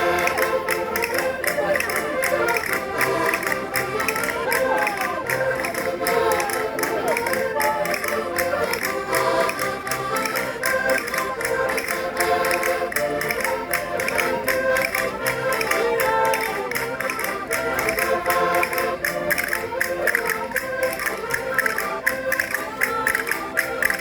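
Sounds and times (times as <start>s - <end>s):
concertinas playing folk tune: 0.0s - 24.0s
sharp rhythmic taps: 0.0s - 24.0s.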